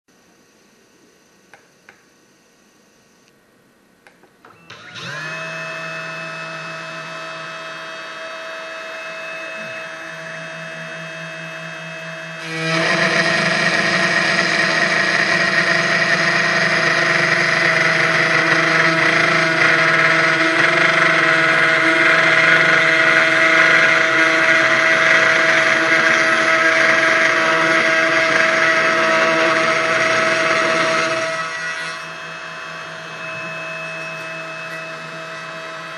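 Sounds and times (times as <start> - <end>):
end mill cutting noise: 4.4 - 35.9
router spindle whining: 4.4 - 35.9.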